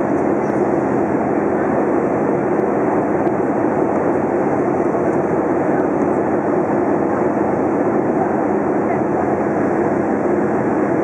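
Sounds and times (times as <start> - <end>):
engine and airflow rush: 0.0 - 11.0.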